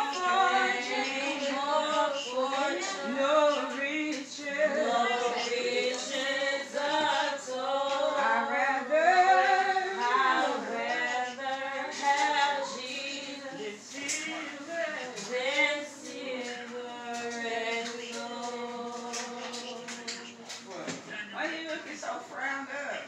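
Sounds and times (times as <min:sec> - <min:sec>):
woman singing unaccompanied: 0:00.0 - 0:20.5.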